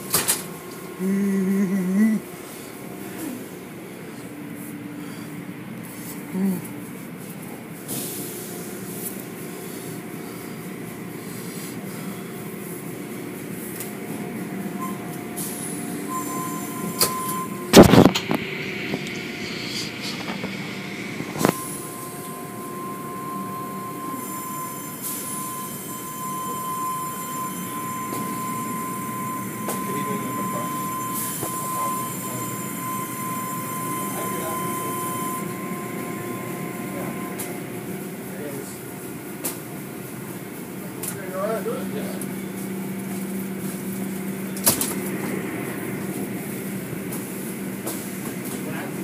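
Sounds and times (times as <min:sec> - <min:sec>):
steady high whine: 0:00.0 - 0:42.9
car wash machinery running: 0:00.0 - 0:49.0.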